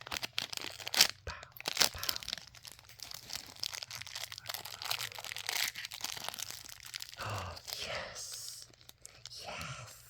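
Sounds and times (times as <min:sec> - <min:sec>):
packaging crackling: 0:00.0 - 0:09.3.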